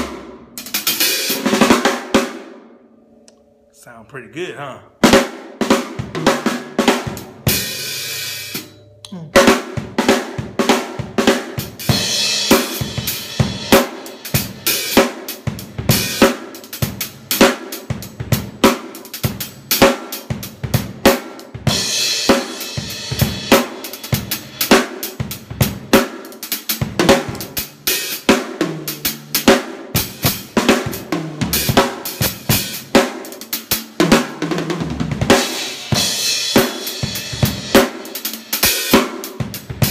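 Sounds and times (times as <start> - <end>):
drum kit playing a groove: 0.0 - 2.5, 3.8 - 39.9.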